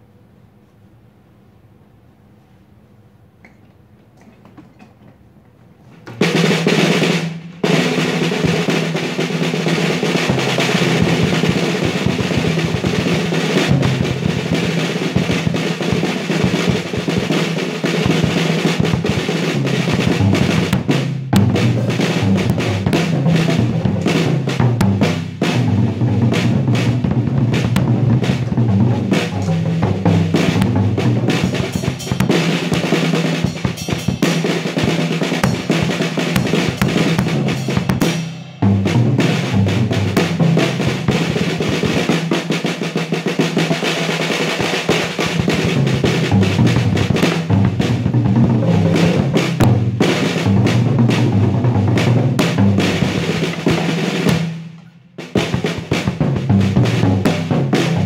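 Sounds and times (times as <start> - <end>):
drum kit played hard: 6.1 - 58.0.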